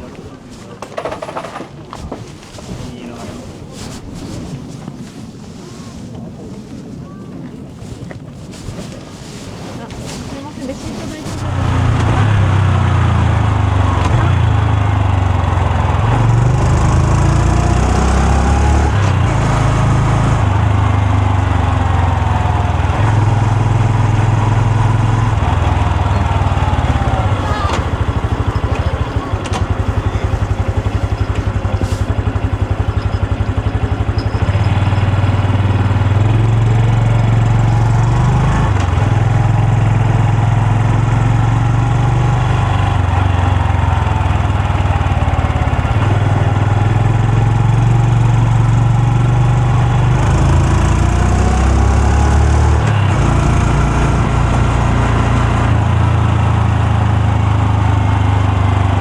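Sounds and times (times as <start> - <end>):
motorcycle engine: 11.2 - 59.0.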